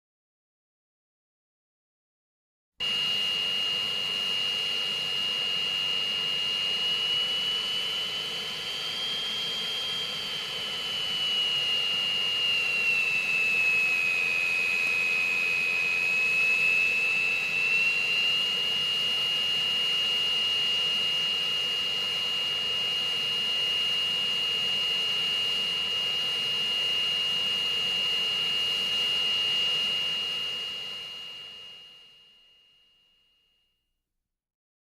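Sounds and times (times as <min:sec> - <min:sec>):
jet engine turbine whine: 0:02.8 - 0:32.7.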